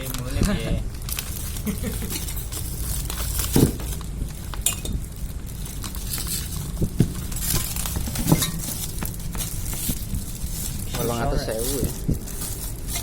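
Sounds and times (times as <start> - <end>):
hard objects clinking and knocking: 0.0 - 13.0.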